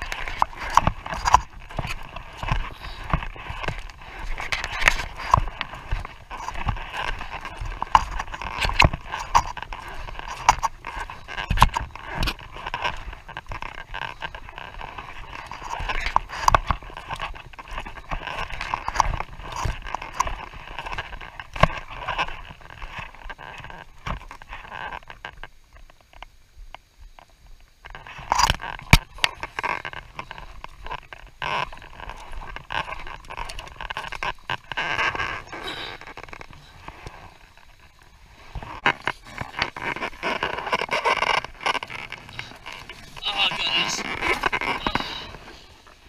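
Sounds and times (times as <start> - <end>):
waterproof suit rustling: 0.0 - 26.1, 27.6 - 46.0.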